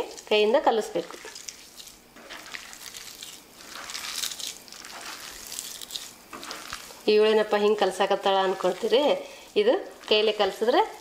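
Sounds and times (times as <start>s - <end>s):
hand squelching rice: 1.0s - 11.0s.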